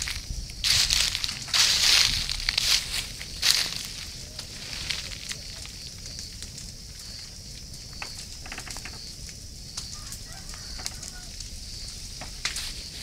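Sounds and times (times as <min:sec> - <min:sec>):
bonfire crackling: 0:00.0 - 0:13.0.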